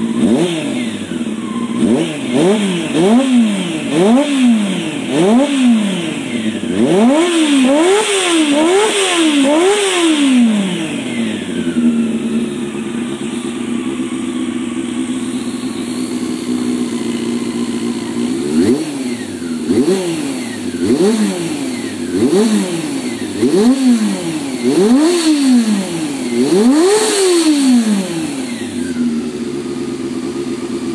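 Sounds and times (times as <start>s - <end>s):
motorcycle engine idling: 0.0s - 30.9s
motorcycle engine revving: 0.0s - 30.9s.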